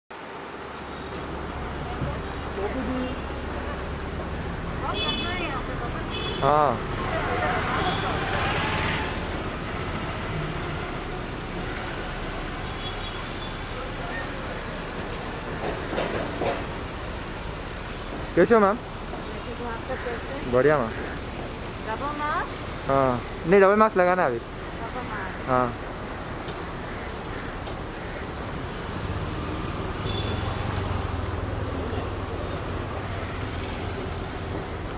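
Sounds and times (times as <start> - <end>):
road traffic hum: 0.1 - 34.9.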